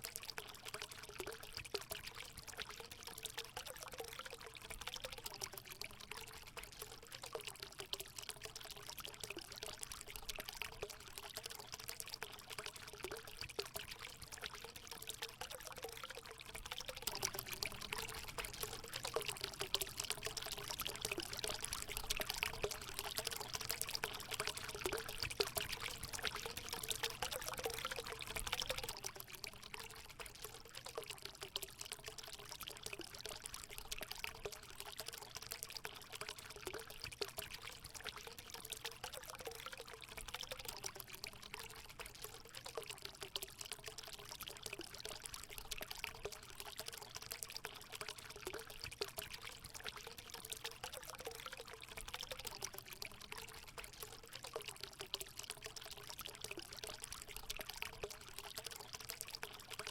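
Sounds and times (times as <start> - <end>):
water pouring into pool: 0.0 - 59.9.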